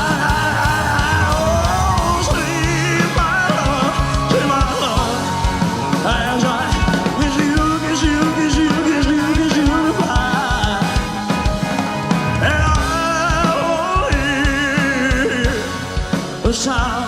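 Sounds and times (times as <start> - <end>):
pitch-bending melody line: 0.0 - 16.8
live rock band playing: 0.0 - 17.0.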